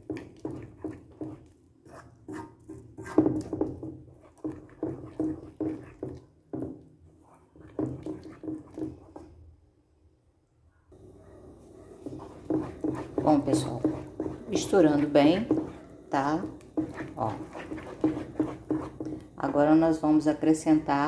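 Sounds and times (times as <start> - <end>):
spoon stirring sticky mixture: 0.0 - 9.6, 11.0 - 21.0.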